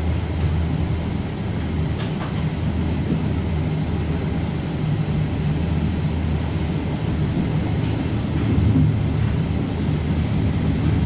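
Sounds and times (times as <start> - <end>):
train interior rumble and hum: 0.0 - 11.0.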